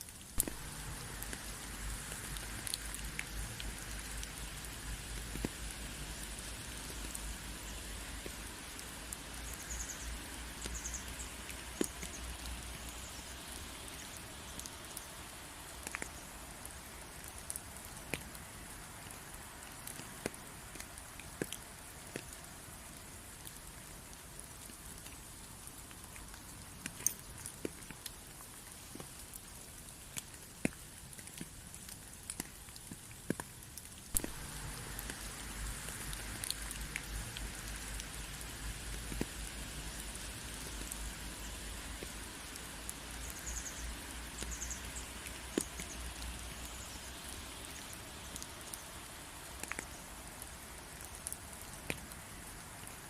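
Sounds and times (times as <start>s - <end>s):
rain drops ticking: 0.0s - 53.0s.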